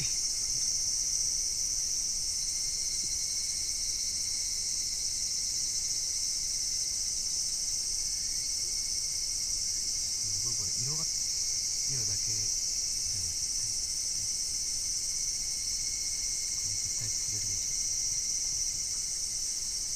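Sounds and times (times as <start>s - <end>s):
insect chorus buzzing: 0.0s - 19.9s.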